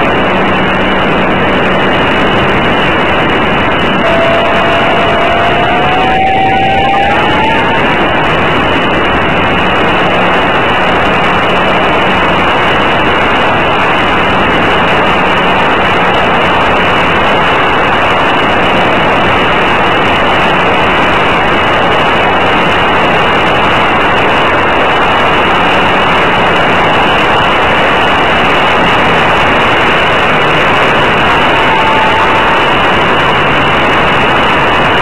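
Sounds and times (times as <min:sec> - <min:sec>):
propeller and wind rushing: 0:00.0 - 0:35.0.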